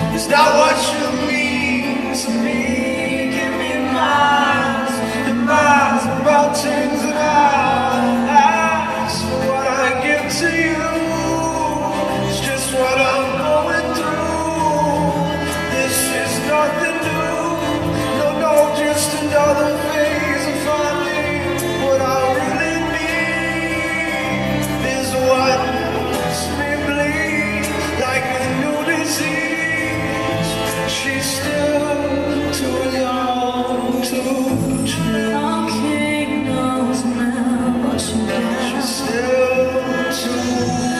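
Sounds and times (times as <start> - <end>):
person singing with instruments: 0.0 - 40.9.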